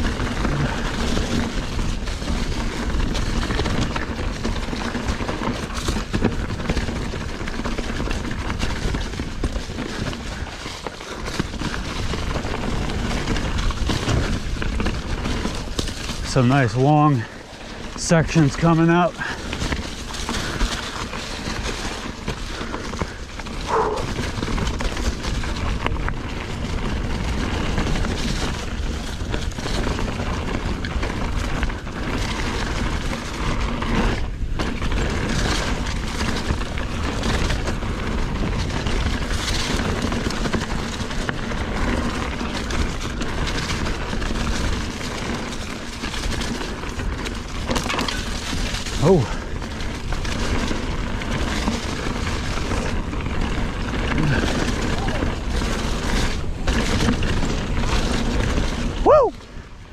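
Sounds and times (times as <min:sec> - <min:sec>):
bike knocks and rattles: 0:00.0 - 0:59.9
bike tyres rolling on dirt: 0:00.0 - 0:59.9.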